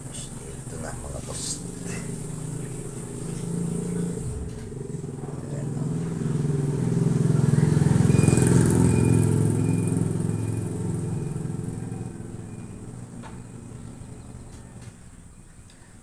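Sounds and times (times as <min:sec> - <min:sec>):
passing vehicle engine: 0:00.0 - 0:15.4.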